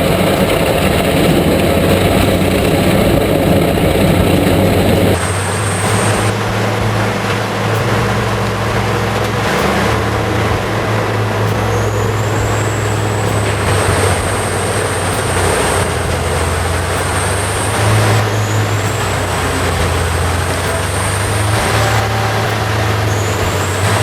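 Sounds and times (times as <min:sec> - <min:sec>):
high whine: 0:00.0 - 0:24.0
machine engine running: 0:00.0 - 0:24.0.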